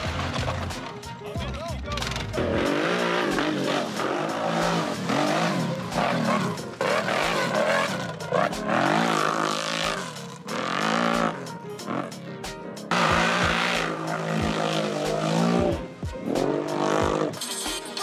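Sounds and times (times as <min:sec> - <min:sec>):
off-road vehicle engine revving: 0:00.0 - 0:01.0, 0:01.8 - 0:17.4
bass beat of background music: 0:00.0 - 0:18.0.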